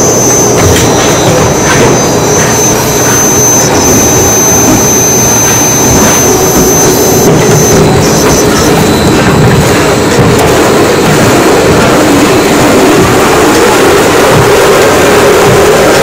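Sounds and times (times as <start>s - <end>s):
high whine: 0.0s - 16.0s
veneer peeling machine running: 0.0s - 16.0s.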